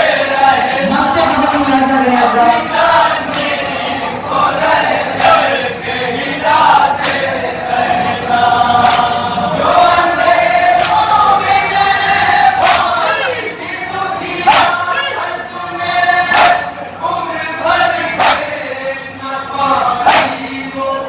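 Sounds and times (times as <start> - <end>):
men chanting in chorus: 0.0 - 21.0.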